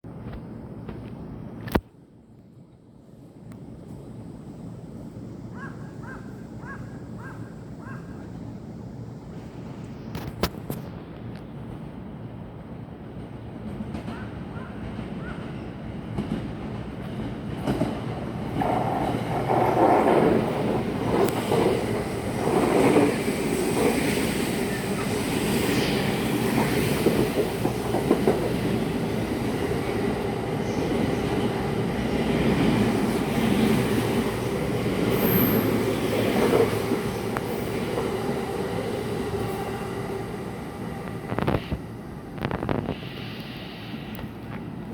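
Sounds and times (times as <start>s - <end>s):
train passing: 0.1s - 44.9s.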